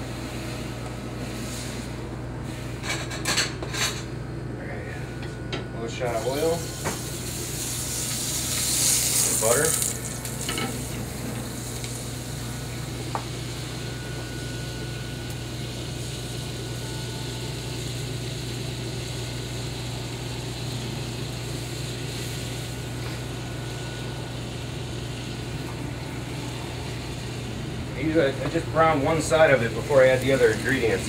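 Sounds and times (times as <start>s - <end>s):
low kitchen hum: 0.0s - 31.0s
butter and oil sizzling: 6.1s - 31.0s.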